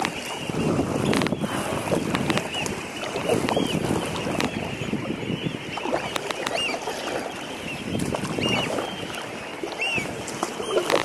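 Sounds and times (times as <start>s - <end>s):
birds calling: 0.0s - 11.0s
wind noise: 0.0s - 11.0s.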